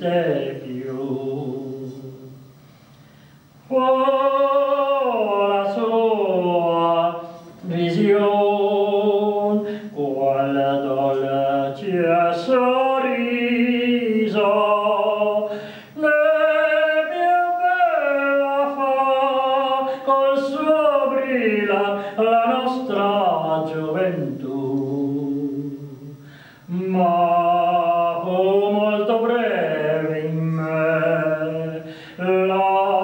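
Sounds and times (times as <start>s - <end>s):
man singing unaccompanied: 0.0s - 2.5s, 3.6s - 33.0s.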